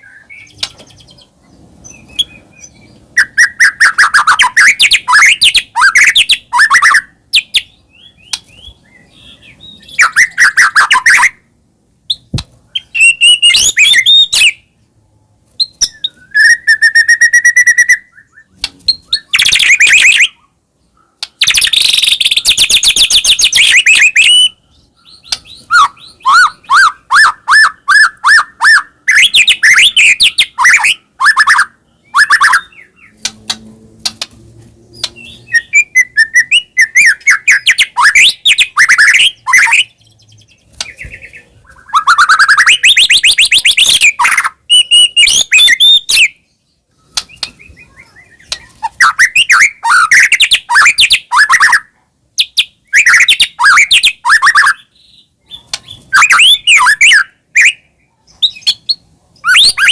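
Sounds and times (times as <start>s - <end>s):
songbird singing varied song: 0.0s - 14.8s, 15.6s - 34.2s, 34.8s - 51.8s, 52.4s - 59.9s.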